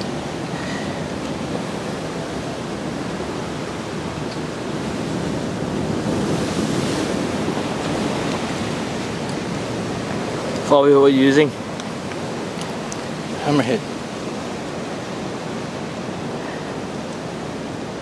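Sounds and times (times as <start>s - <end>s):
ocean surf on rocky shore: 0.0s - 18.0s.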